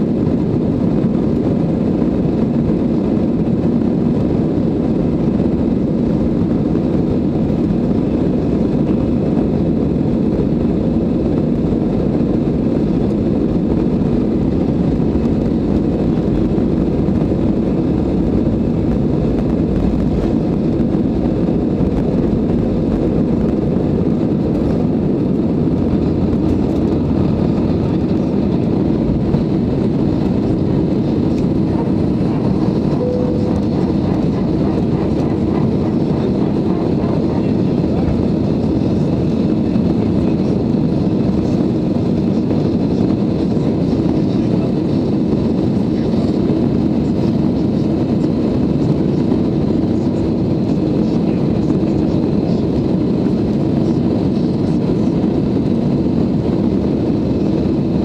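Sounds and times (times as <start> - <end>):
jet engines roaring in cabin: 0.0 - 58.0.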